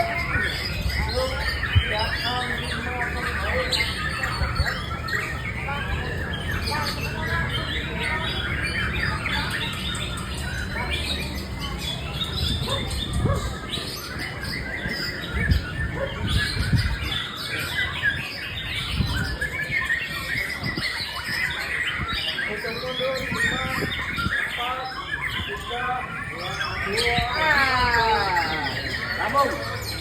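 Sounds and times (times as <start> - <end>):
bird singing varied chirping phrases: 0.0 - 30.0.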